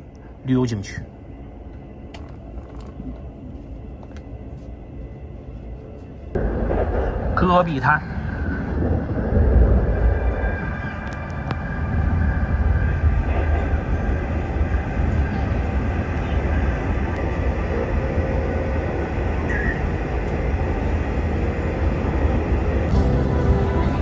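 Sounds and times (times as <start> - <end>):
train wheels rumbling on rails: 1.6 - 24.0.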